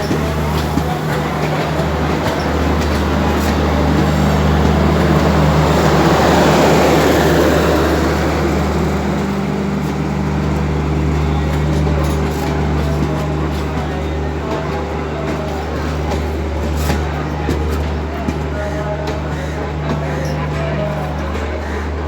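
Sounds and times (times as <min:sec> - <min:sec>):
locomotive low hum: 0:00.0 - 0:22.0
train rushing and rolling: 0:00.0 - 0:22.0.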